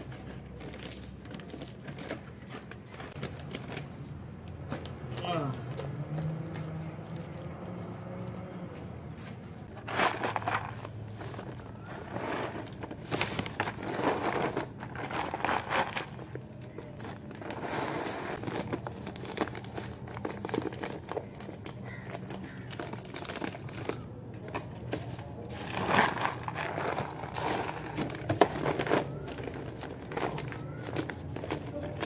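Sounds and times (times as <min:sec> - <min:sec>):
plastic bag crinkling and rustling: 0:00.0 - 0:05.0, 0:09.5 - 0:32.0.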